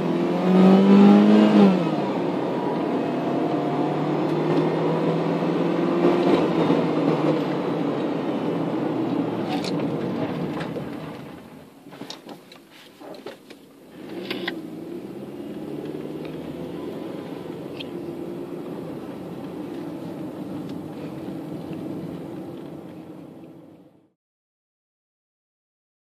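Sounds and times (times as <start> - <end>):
car engine droning at low revs: 0.0 - 11.6, 13.8 - 24.1.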